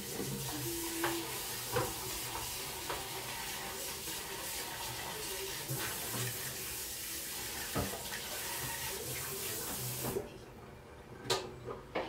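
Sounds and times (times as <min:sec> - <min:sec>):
rushing hiss of kitchen noise: 0:00.0 - 0:10.2.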